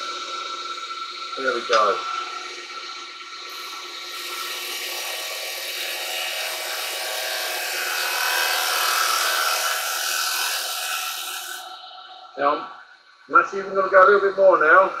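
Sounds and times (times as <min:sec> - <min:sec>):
chisel hissing on spinning wood: 0:00.0 - 0:12.6
lathe motor hum: 0:00.0 - 0:15.0.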